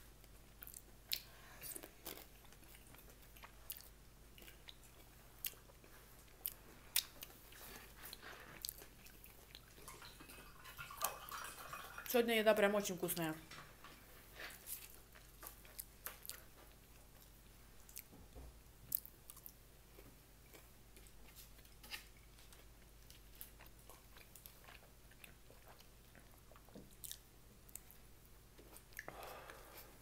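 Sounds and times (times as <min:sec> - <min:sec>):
faint chewing of food: 0:00.1 - 0:12.1, 0:13.5 - 0:30.0.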